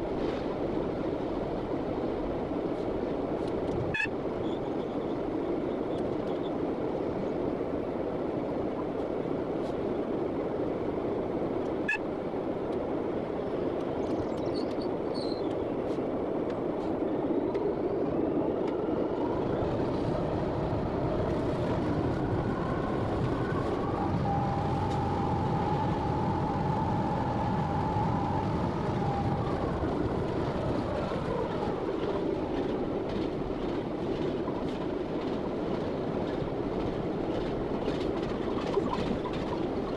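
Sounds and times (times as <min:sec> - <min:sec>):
diesel locomotive rumble: 0:00.0 - 0:39.9.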